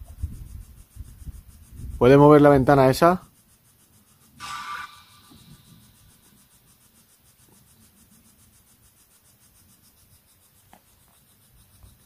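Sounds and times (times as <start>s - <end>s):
rapid high ticking: 0.0s - 12.0s.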